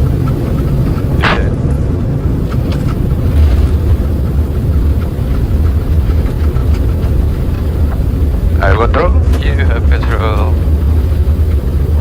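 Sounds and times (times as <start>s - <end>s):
jet engines in reverse thrust: 0.0s - 12.0s
wheels rolling on runway: 0.0s - 12.0s.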